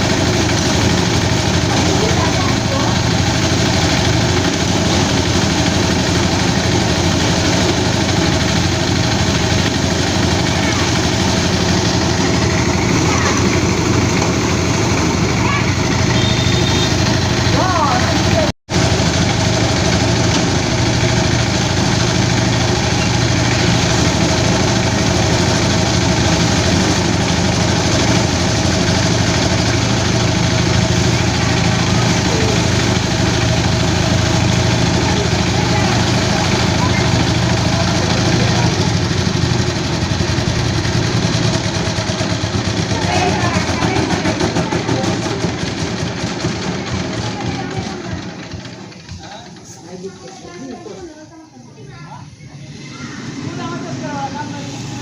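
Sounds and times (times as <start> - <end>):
threshing machine engine running: 0.0 - 55.0.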